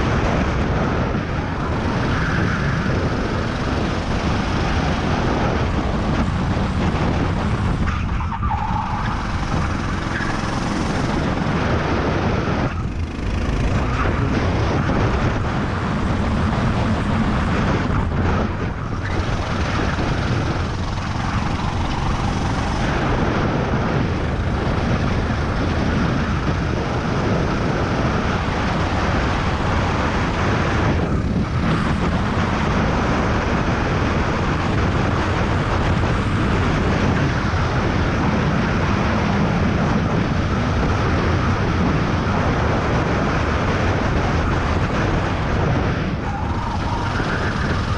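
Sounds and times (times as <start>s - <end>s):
go-kart engine running hard: 0.0s - 47.9s
wind rush on microphone: 0.0s - 47.9s.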